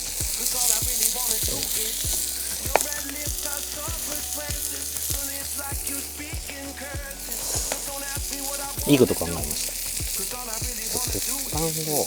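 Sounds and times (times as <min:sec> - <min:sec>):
chicken sizzling on griddle: 0:00.0 - 0:12.0.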